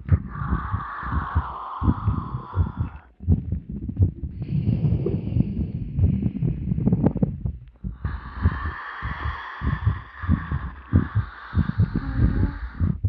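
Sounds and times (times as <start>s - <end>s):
low body thumps and rumbles: 0.0s - 13.0s.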